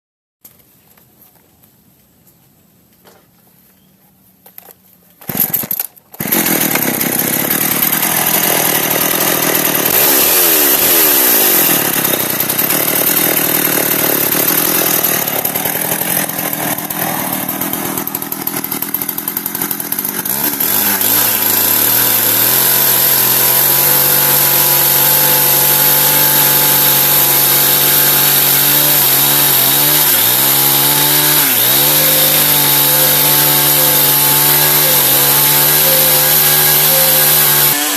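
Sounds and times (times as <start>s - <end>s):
chainsaw engine running: 5.2s - 37.9s.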